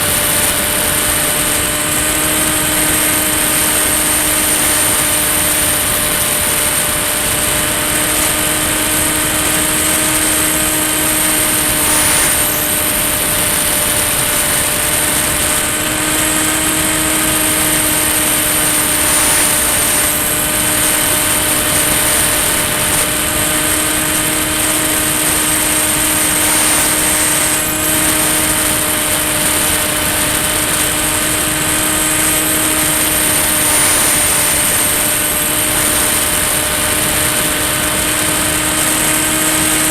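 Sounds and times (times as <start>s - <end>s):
model plane motor buzzing: 0.0s - 39.9s.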